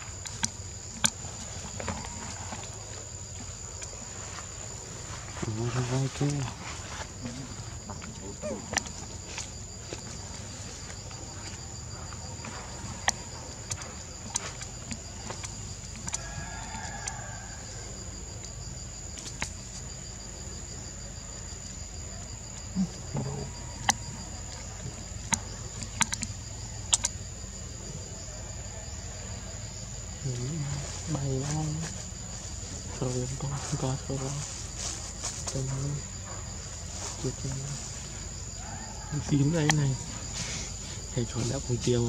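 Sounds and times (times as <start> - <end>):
clicks and crackles of twigs: 0.0 - 20.0, 22.2 - 27.2, 30.7 - 41.1
insects shrilling: 0.0 - 42.0.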